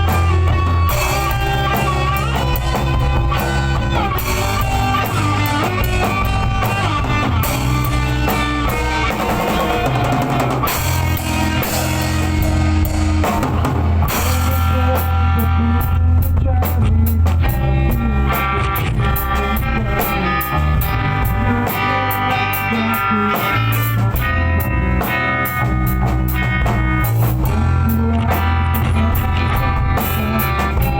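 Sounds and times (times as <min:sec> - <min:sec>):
loud rock music: 0:00.0 - 0:30.9.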